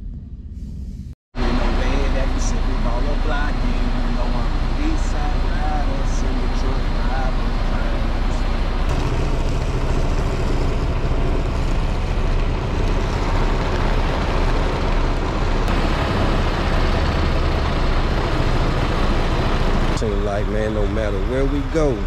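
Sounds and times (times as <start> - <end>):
diesel truck engine droning: 1.4 - 22.0.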